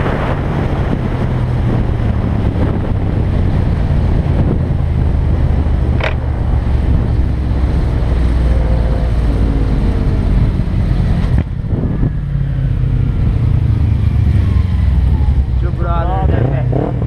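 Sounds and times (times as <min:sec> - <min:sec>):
motorcycle engine rumble: 0:00.0 - 0:17.0
wind rush on microphone: 0:00.0 - 0:17.0.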